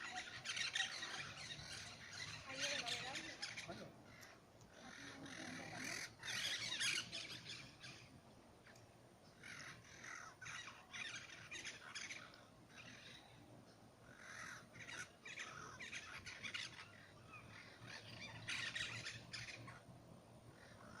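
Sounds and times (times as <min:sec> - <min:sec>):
birds harsh calls: 0:00.0 - 0:21.0.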